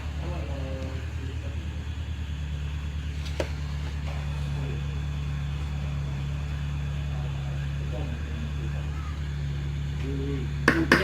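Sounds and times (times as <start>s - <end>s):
heat tool humming: 0.0s - 11.0s.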